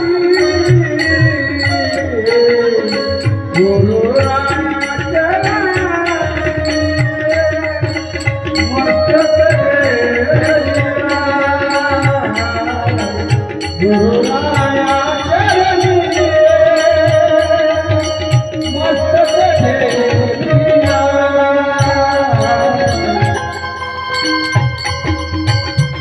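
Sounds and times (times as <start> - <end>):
man singing long sliding notes: 0.0 - 24.4
drum accompaniment: 0.0 - 26.0.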